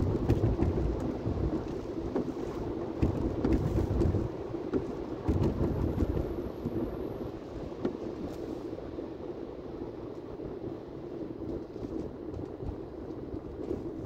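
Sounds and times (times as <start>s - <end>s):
tyres and wind rumble: 0.0s - 14.0s.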